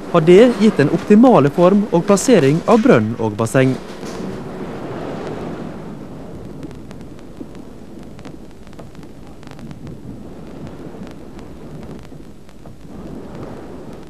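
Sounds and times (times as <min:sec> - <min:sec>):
heavy sea breaking against bow: 0:00.0 - 0:14.0
wind buffeting microphone: 0:00.0 - 0:14.0.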